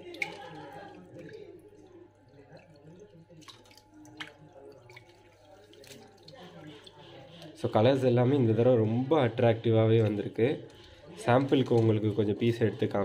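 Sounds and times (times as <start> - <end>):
aquarium water splashing: 0.0 - 13.0.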